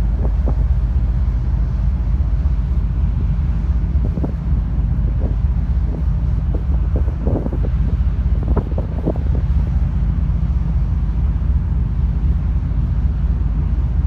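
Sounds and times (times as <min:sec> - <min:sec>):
ferry engines rumbling: 0:00.0 - 0:14.0
wind buffeting microphone: 0:00.0 - 0:14.0.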